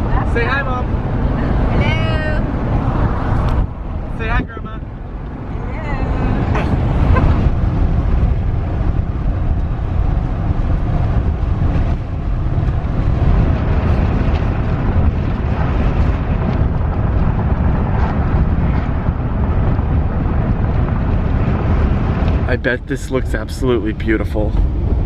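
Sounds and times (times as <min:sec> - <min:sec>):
car road noise: 0:00.0 - 0:25.0
wind buffeting microphone: 0:00.0 - 0:25.0.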